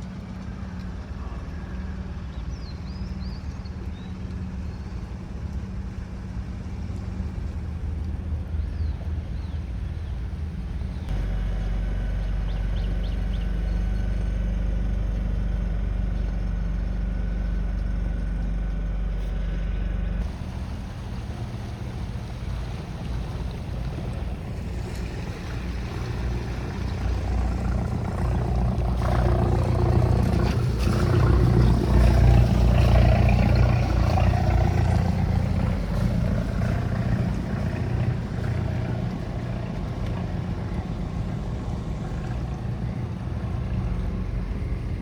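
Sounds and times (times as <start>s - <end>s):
boat engine droning: 0.0s - 45.0s
heavy low rumble: 6.9s - 45.0s.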